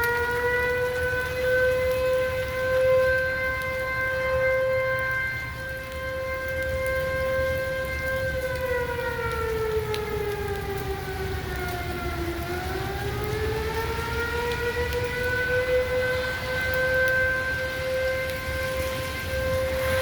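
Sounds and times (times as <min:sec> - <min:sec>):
tornado warning siren: 0:00.0 - 0:20.0
wind and rain rushing: 0:00.0 - 0:20.0.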